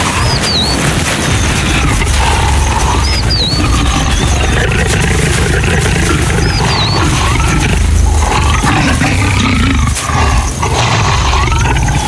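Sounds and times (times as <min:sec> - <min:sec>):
leopards growling: 0:00.0 - 0:12.0.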